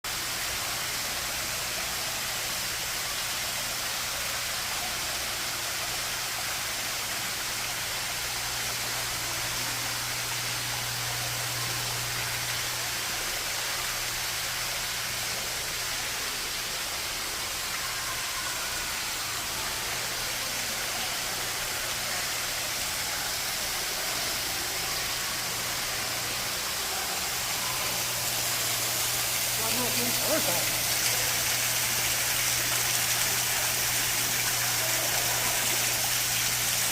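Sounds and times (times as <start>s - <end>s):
waterfall pouring: 0.1s - 36.9s.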